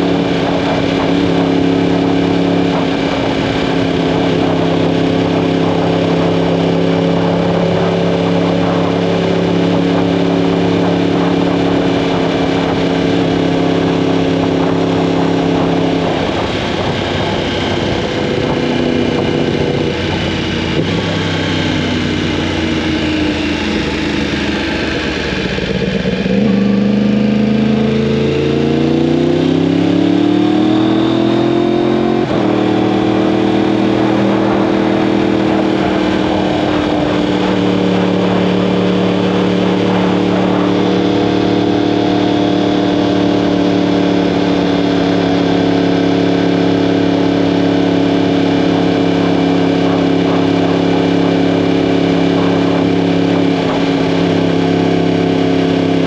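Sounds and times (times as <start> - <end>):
motorcycle engine: 0.0 - 56.0
steady rushing noise: 0.0 - 56.0.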